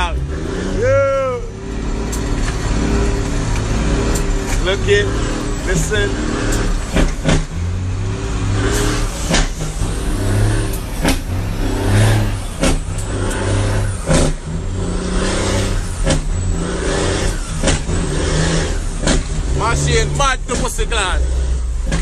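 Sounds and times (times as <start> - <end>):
truck diesel engine revving: 0.0 - 22.0.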